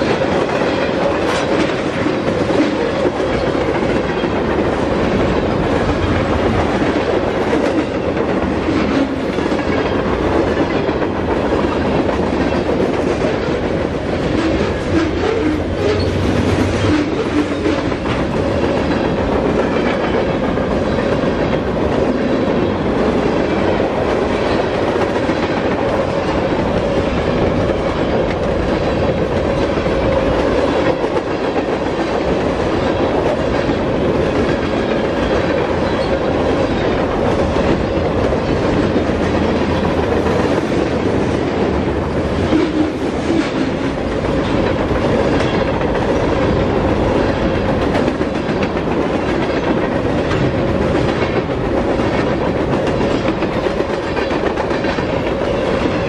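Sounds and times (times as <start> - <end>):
freight train rolling past: 0.0 - 56.0
wheels clicking on rail joints: 0.0 - 56.0.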